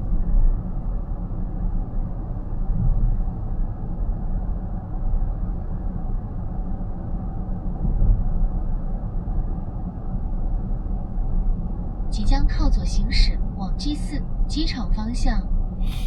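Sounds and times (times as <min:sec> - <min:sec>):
car road rumble and tyre noise: 0:00.0 - 0:14.8.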